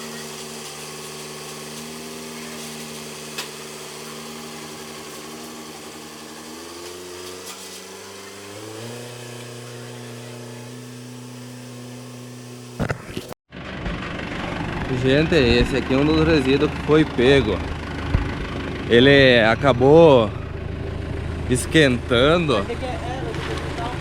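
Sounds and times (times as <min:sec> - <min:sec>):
farm machinery engine running: 0:00.0 - 0:24.0.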